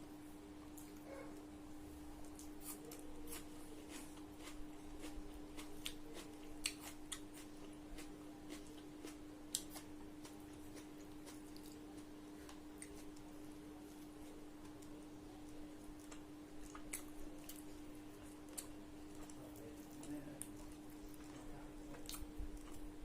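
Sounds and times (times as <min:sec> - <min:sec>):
steady low hum: 0:00.0 - 0:23.0
crisp chewing clicks and smacks: 0:02.2 - 0:13.4, 0:14.6 - 0:23.0.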